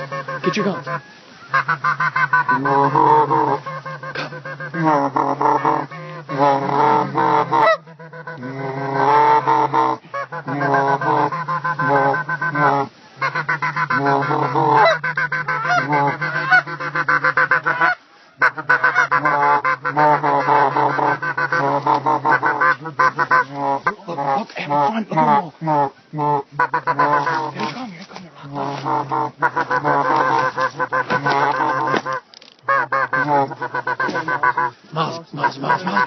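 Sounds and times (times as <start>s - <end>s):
geese honking: 0.0s - 36.0s.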